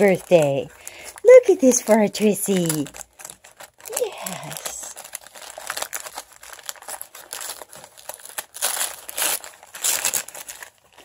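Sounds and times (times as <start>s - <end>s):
wrapping paper crinkling and tearing: 0.0s - 11.0s.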